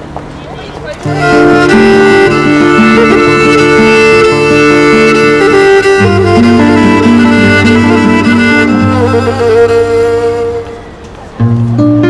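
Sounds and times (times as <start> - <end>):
background music: 1.1 - 10.9.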